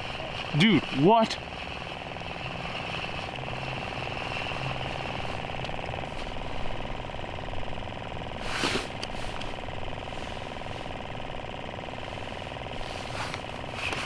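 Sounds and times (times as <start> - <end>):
pulsing engine buzz: 0.0 - 14.0.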